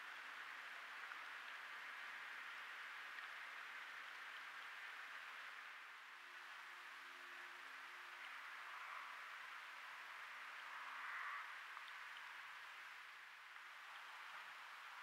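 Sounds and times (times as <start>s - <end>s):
faint microphone hiss: 0.0s - 15.0s.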